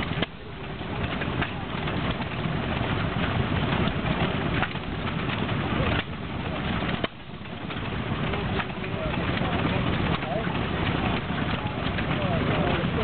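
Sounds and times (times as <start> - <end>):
stationary engine chuffing and knocking: 0.0 - 13.0.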